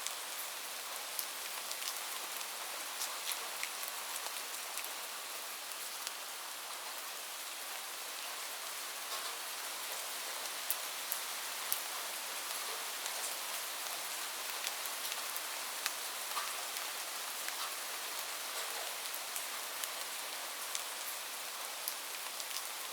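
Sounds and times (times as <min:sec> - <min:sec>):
light rain falling: 0:00.0 - 0:22.9.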